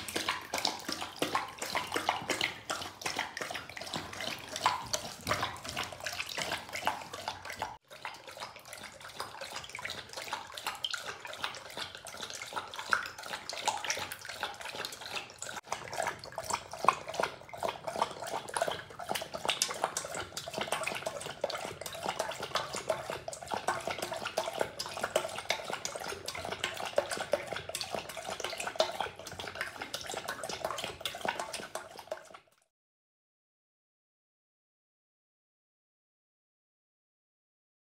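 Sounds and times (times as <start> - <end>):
dog lapping water from bowl: 0.0 - 32.7.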